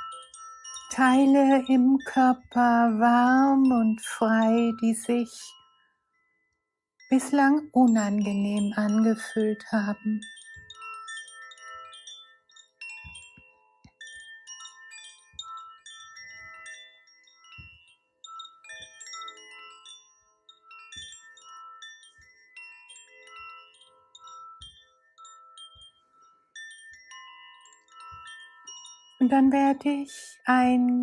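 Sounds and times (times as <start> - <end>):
wind chimes ringing: 0.0 - 31.0.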